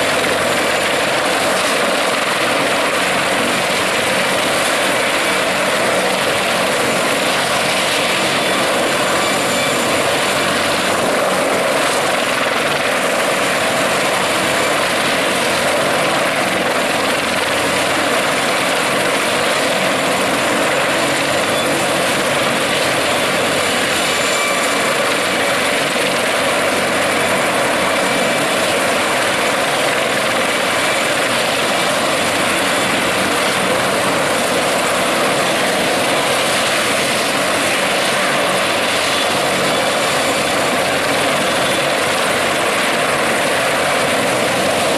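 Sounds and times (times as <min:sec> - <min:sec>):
helicopter engines and rotor: 0:00.0 - 0:44.9.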